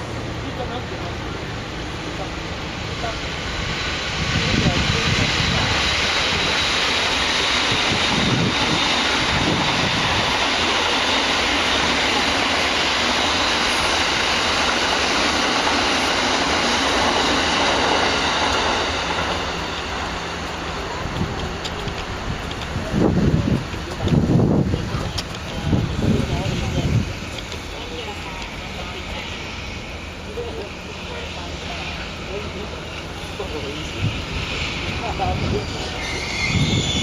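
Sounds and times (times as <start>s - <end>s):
freight train wheels clattering: 0.0s - 37.0s.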